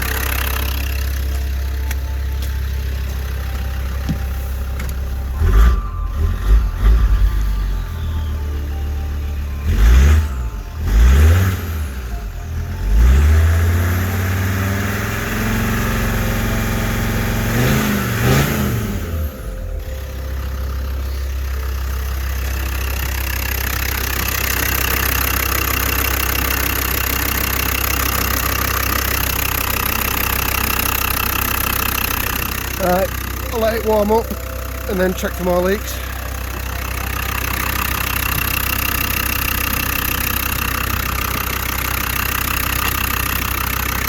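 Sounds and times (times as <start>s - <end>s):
diesel engine revving and idling: 0.0s - 44.0s.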